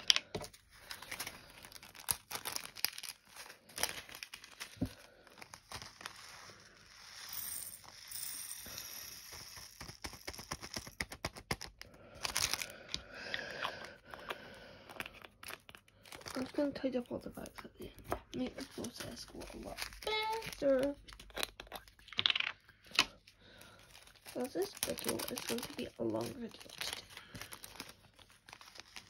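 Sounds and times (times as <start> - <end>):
plastic bags crinkling and tearing: 0.0 - 6.9, 9.7 - 22.2, 22.8 - 29.0.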